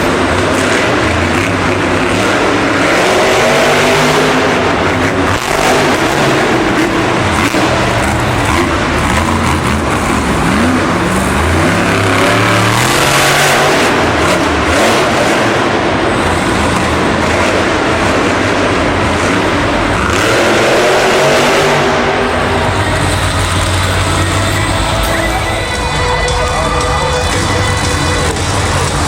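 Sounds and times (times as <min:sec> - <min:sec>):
truck engine revving hard: 0:00.0 - 0:29.0.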